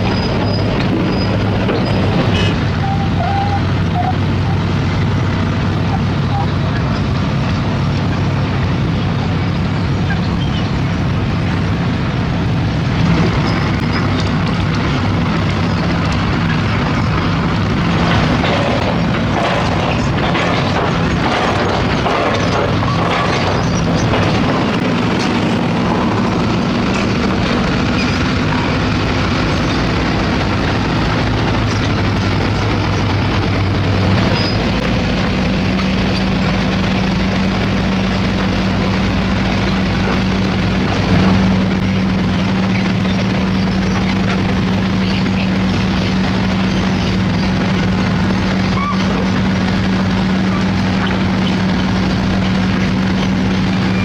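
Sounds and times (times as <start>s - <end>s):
knocks and scraping: 0.0s - 4.6s, 12.9s - 54.0s
diesel engine running: 0.0s - 54.0s.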